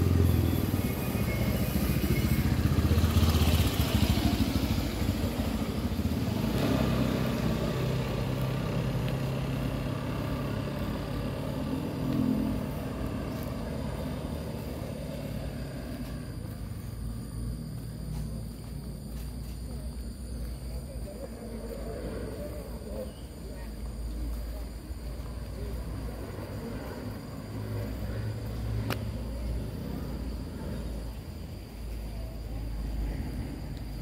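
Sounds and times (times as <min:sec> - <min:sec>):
motor scooter engine passing: 0:00.0 - 0:34.0.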